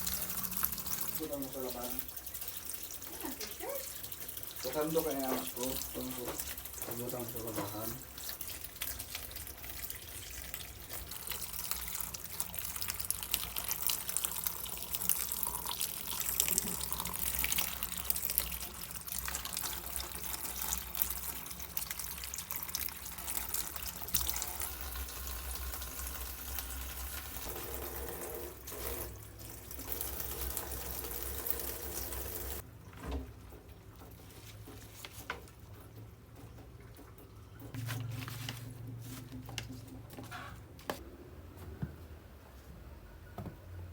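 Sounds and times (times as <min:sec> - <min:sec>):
tap water splashing into sink: 0:00.0 - 0:37.7.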